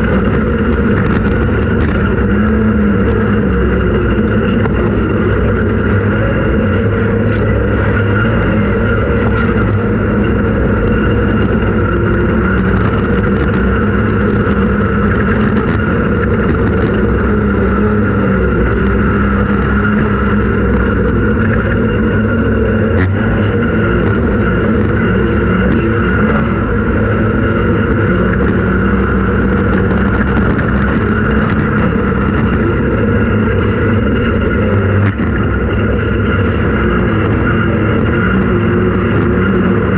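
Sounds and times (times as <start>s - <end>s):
race vehicle engine running: 0.0s - 39.9s.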